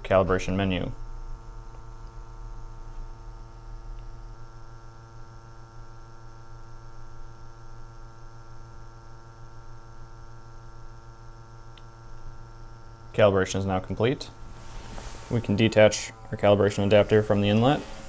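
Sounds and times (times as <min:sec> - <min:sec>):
steady low buzzy hum: 0:00.0 - 0:18.0.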